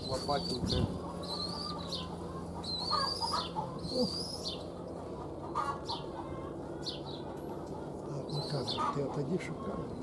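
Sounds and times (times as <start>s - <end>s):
young pigeons squeaking: 0.0s - 10.0s.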